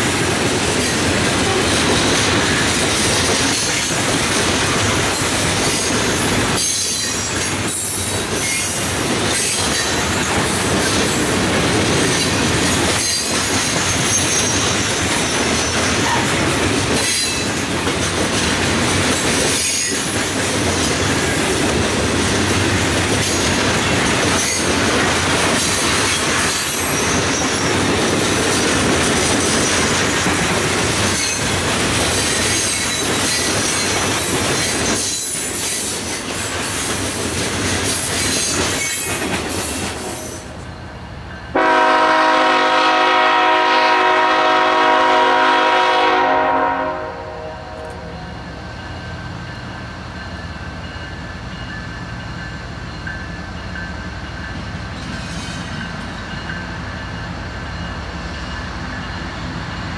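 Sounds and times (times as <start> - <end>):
train wheels rumbling over rails: 0.0 - 59.9.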